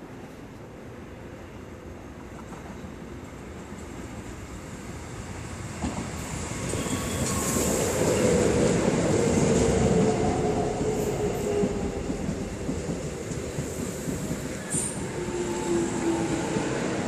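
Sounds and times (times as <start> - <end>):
electric train rumbling past: 0.0 - 17.0.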